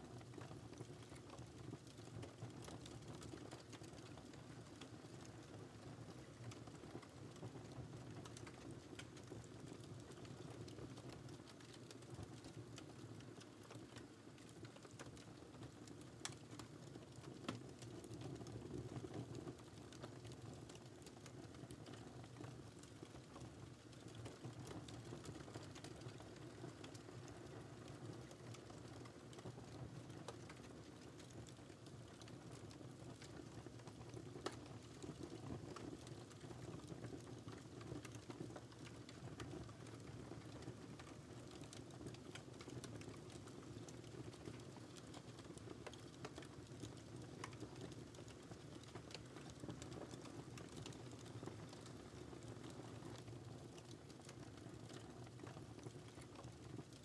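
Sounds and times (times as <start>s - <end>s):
wood fire crackling: 0.1s - 57.0s.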